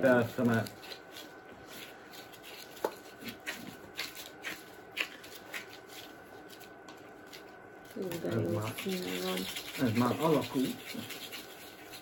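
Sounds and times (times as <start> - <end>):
gloved hands kneading paste: 0.0 - 12.0.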